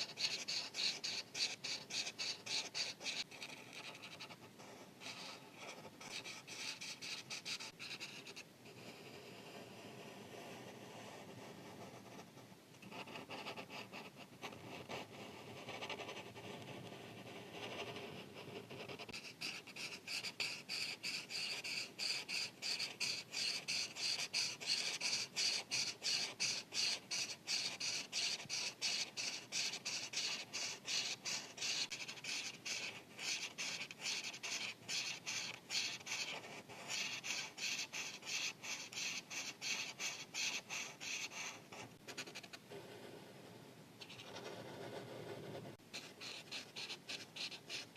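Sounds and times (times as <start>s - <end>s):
marker rubbing on paper: 0.0s - 43.1s, 44.0s - 47.9s.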